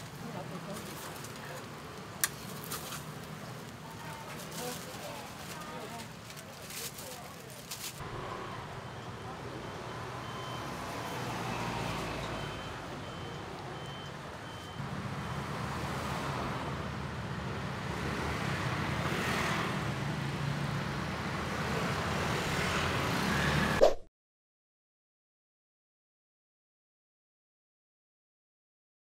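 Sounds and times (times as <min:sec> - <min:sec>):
motor vehicle rumbling: 0:00.0 - 0:23.8.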